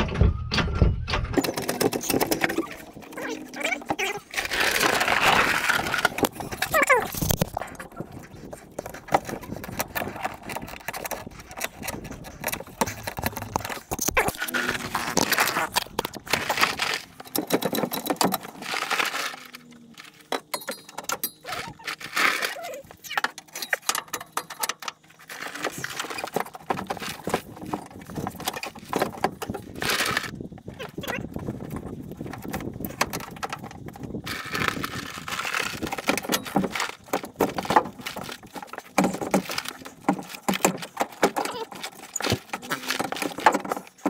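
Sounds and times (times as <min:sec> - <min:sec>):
creeper casters rolling: 0:00.0 - 0:44.0
knocks and rattles of parts: 0:00.0 - 0:44.0.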